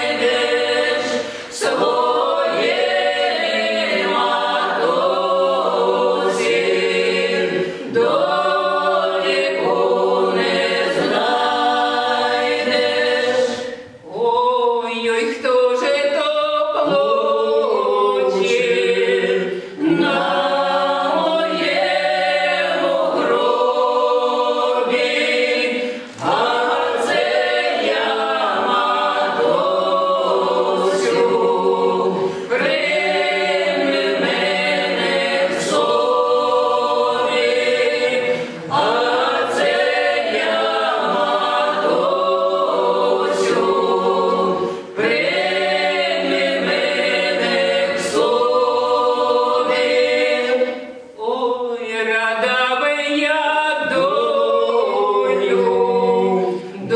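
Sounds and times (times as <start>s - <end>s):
choir singing a cappella in harmony: 0.0s - 56.9s.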